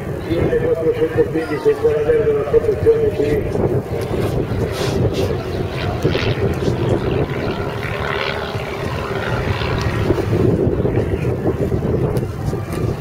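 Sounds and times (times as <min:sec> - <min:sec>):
propeller plane engine overhead: 0:00.0 - 0:13.0
wind buffeting microphone: 0:00.0 - 0:13.0.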